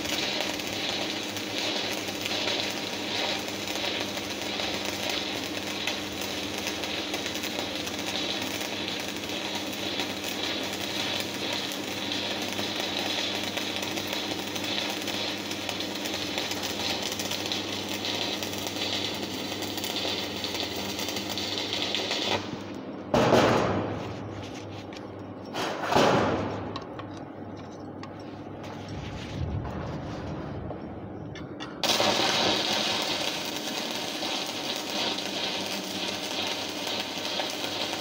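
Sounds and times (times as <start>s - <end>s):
welding arc crackling: 0.0s - 24.4s, 31.8s - 38.0s
welding machine low hum: 0.0s - 38.0s.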